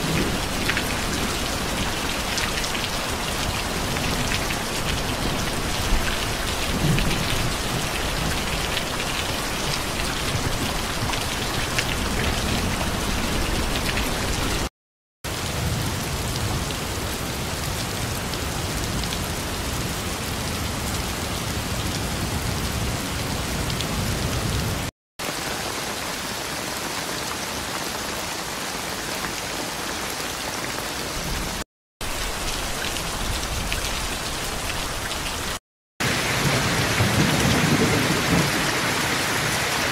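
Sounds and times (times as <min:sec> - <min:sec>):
steady rainfall: 0:00.0 - 0:14.7, 0:15.3 - 0:39.9.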